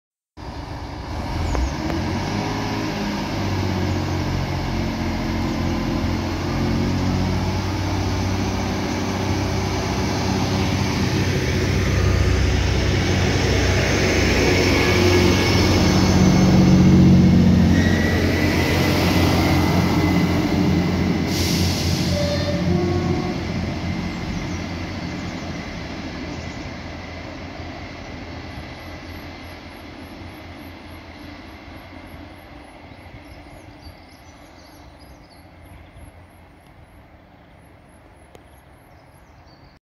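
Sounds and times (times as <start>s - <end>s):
train wheels rumbling on rails: 0.4s - 39.3s
train diesel engines running: 0.4s - 39.6s.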